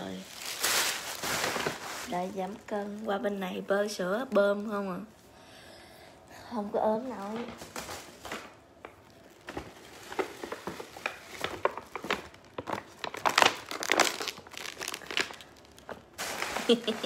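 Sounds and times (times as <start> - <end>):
plastic wrap crinkling: 0.0 - 4.8, 7.0 - 17.0.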